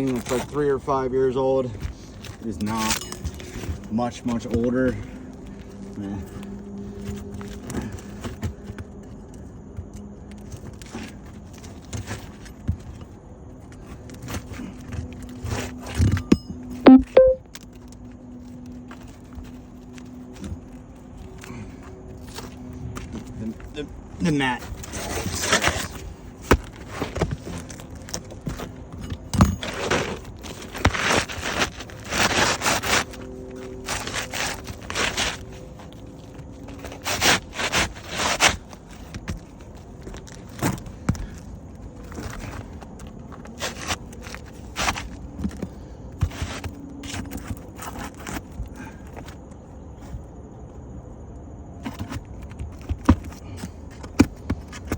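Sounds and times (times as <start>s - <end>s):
roof shingles scraping and rustling: 0.0s - 16.2s, 17.6s - 50.3s, 51.8s - 54.9s.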